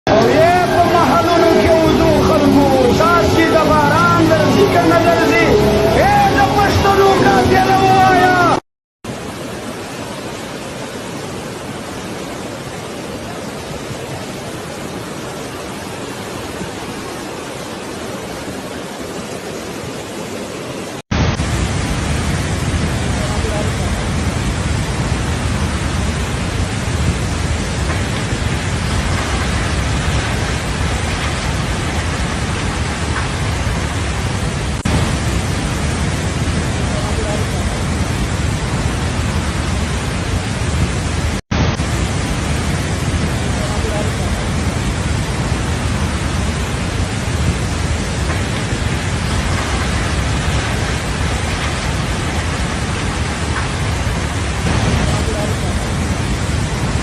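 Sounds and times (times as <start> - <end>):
water rushing: 0.1 - 57.0.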